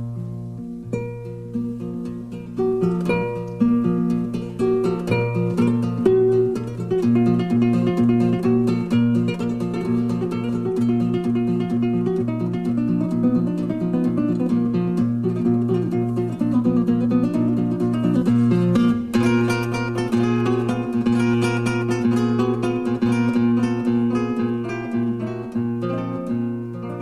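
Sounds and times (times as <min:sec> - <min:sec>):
solo flamenco guitar: 0:00.0 - 0:27.0.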